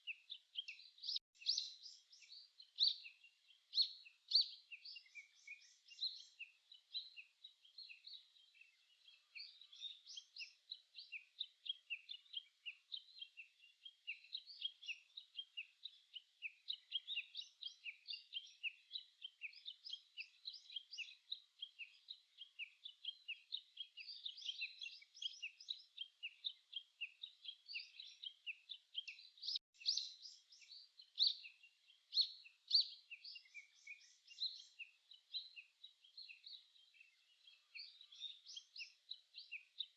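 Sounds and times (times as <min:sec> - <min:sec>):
chorus of small songbirds: 0:00.0 - 0:39.9.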